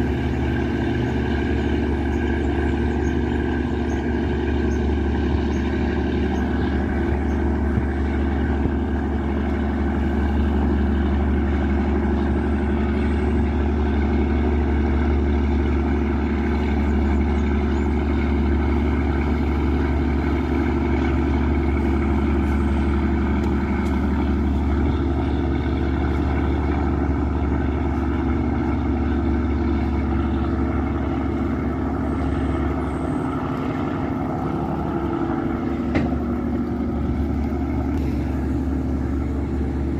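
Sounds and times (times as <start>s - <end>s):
boat diesel engine drone: 0.0s - 39.9s.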